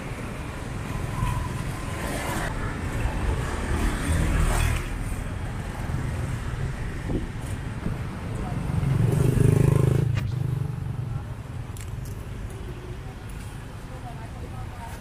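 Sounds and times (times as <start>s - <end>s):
motorbikes and cars passing: 0.0s - 14.7s.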